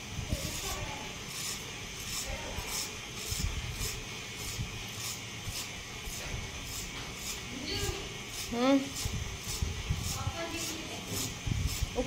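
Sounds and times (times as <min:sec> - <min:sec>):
scissors cutting hair: 0:00.4 - 0:07.5, 0:08.3 - 0:12.0.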